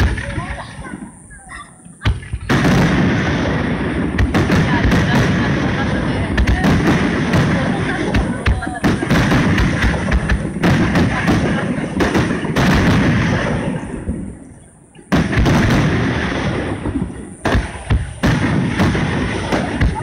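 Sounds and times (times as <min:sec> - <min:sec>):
fireworks booming and crackling: 0:00.0 - 0:20.0.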